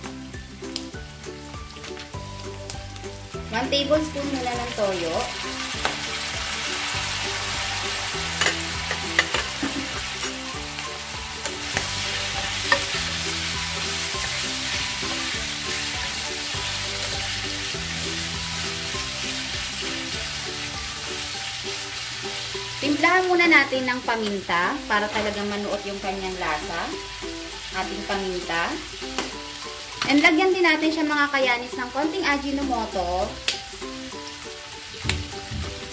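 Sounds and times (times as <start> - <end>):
pork sizzling in a pan: 0.0 - 35.9
soft background music: 0.0 - 35.9.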